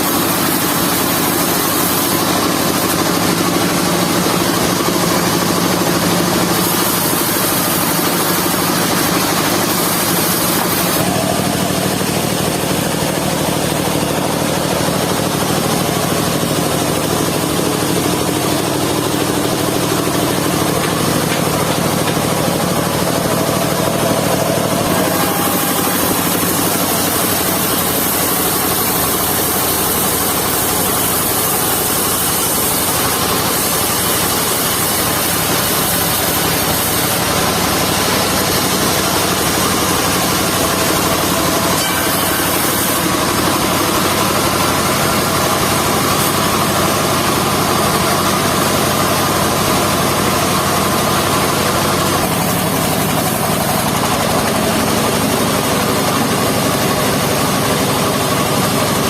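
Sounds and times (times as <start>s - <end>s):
sawmill circular saw running: 0.0s - 59.0s.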